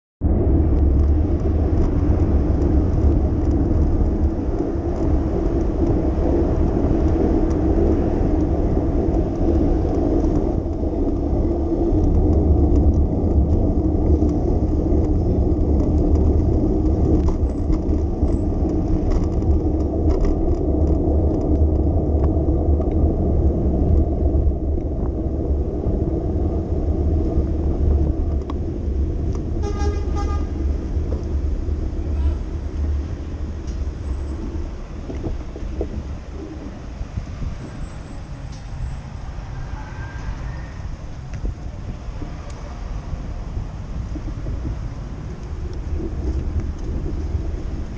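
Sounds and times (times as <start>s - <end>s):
bicycle ride rumble: 0.2s - 47.9s
road and traffic noise: 0.2s - 47.9s.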